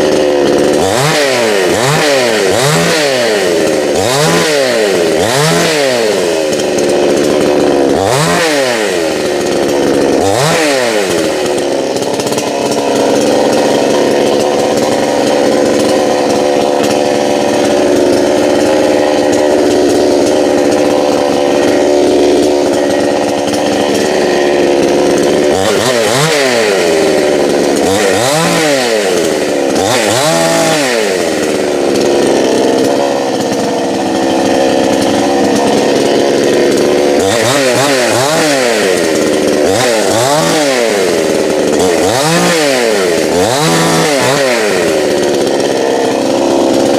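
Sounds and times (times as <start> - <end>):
chainsaw engine revving: 0.0 - 46.9.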